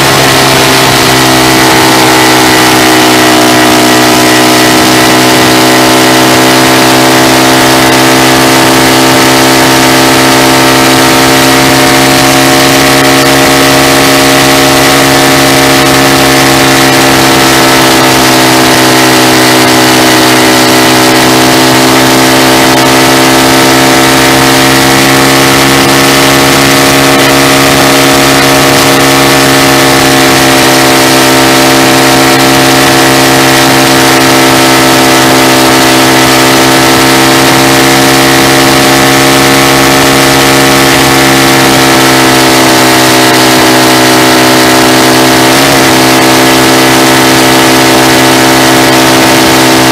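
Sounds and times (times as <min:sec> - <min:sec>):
motorcycle exhaust note: 0:00.0 - 0:49.9.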